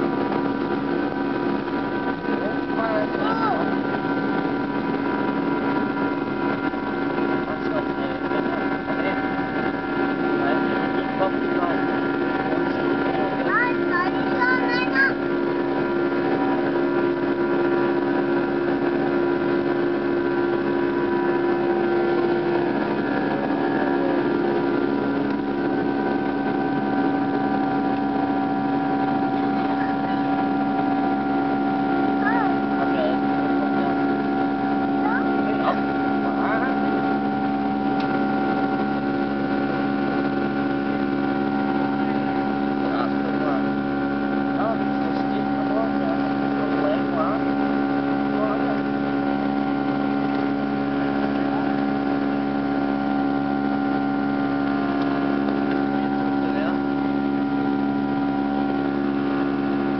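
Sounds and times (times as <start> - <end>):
engine drone with humming tones: 0.0 - 59.9.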